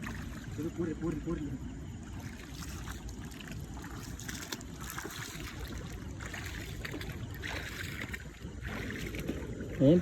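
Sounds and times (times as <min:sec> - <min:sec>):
river water sloshing and trickling: 0:00.0 - 0:10.0
small water splashes: 0:00.0 - 0:10.0.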